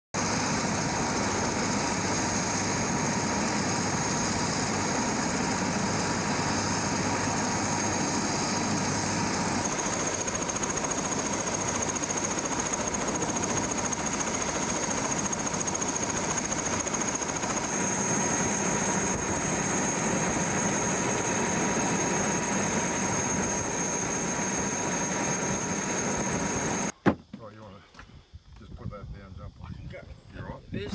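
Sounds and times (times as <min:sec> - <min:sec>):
helicopter engine and rotor running: 0:00.2 - 0:26.9.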